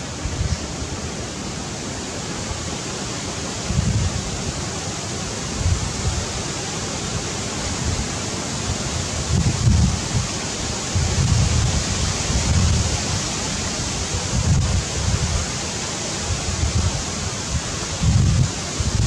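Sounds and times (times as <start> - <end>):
wind buffeting microphone: 0.0 - 1.4, 2.5 - 19.0.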